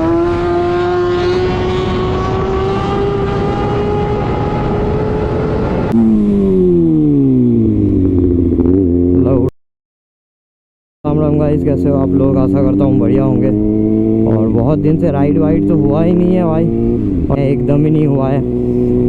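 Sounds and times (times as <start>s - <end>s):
motorcycle engine revving: 0.0s - 9.5s, 11.1s - 19.0s.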